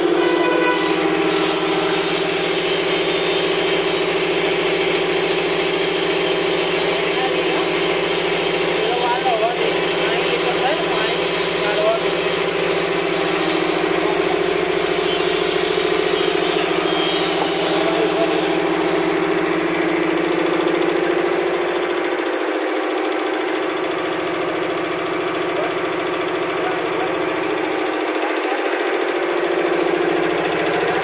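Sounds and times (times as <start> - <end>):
air compressor running: 0.0 - 31.0.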